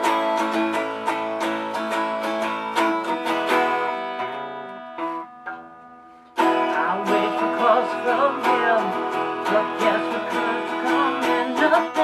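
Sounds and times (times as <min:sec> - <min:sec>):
acoustic guitar strumming: 0:00.0 - 0:12.0
plucked guitar notes: 0:00.0 - 0:12.0.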